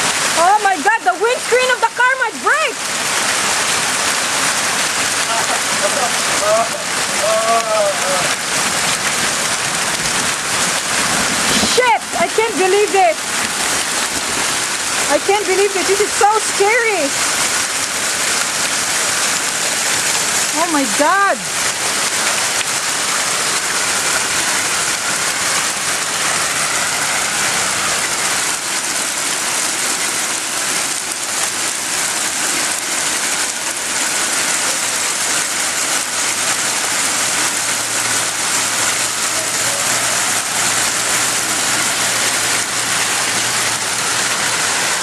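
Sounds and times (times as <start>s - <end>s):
hail pelting down: 0.0s - 45.0s.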